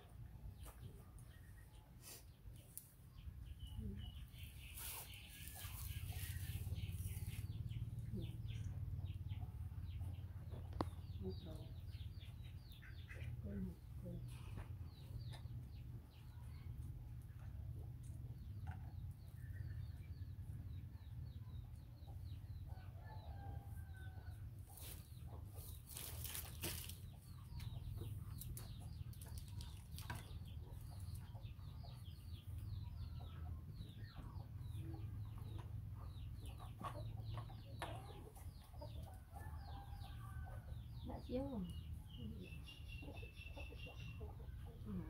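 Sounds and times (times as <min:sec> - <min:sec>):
chicks peeping: 0:03.1 - 0:13.6, 0:14.3 - 0:45.0
chickens clucking: 0:03.4 - 0:16.6, 0:21.2 - 0:45.0.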